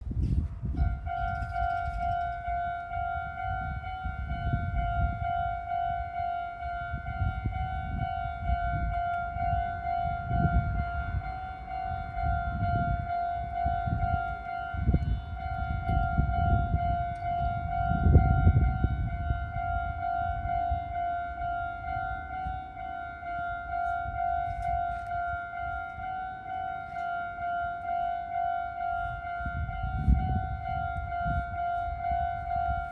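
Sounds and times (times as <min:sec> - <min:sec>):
level-crossing alarm bell: 0:00.1 - 0:32.9.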